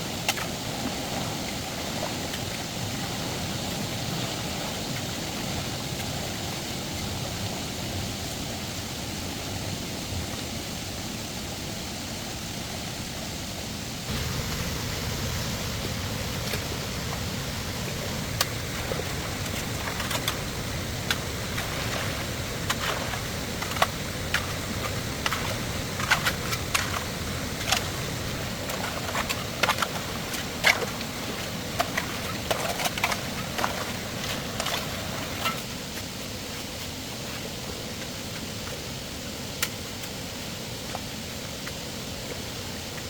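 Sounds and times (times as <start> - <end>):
background hiss: 0.0 - 43.0.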